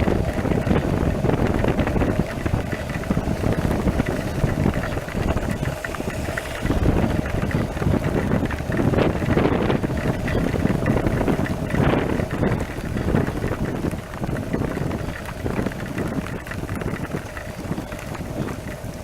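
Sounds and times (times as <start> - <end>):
motorcycle engine droning: 0.0 - 19.0
wind buffeting microphone: 0.0 - 19.0.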